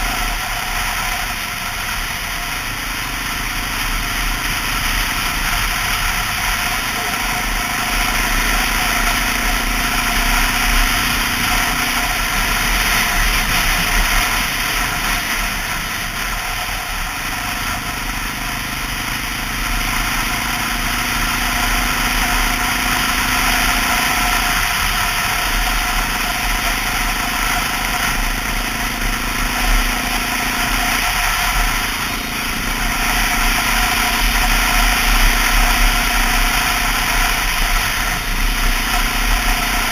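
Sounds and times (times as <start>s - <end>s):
continuous rushing noise: 0.0s - 39.9s
motorcycle engine running: 0.0s - 39.9s.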